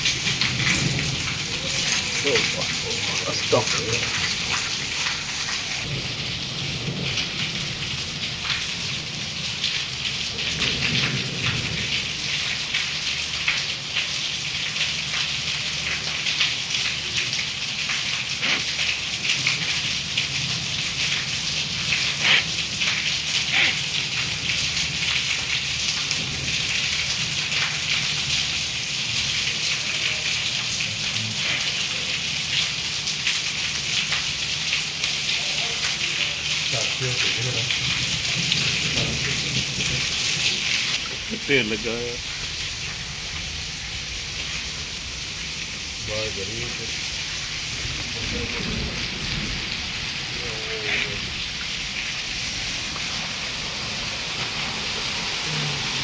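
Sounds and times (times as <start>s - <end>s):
heavy rain with hail: 0.0s - 56.0s.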